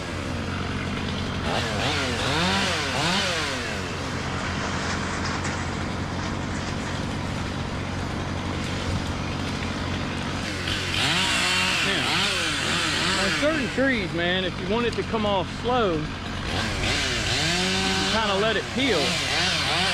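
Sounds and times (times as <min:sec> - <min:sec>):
chainsaw engine revving and idling: 0:00.0 - 0:19.9.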